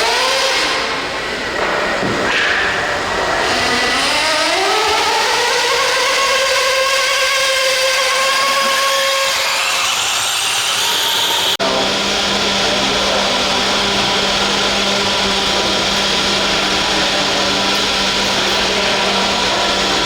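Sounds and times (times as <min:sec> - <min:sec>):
motor whine rising in pitch: 0:00.0 - 0:01.5, 0:02.9 - 0:20.0.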